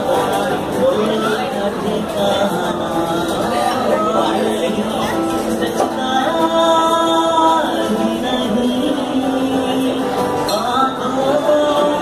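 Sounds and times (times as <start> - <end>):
acoustic guitar: 0.0 - 12.0
man singing: 0.0 - 12.0.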